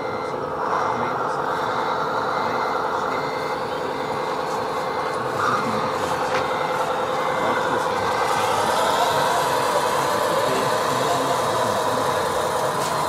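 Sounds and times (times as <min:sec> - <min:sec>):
diesel engine drone: 0:00.0 - 0:13.0
truck reversing beeper: 0:00.0 - 0:13.0.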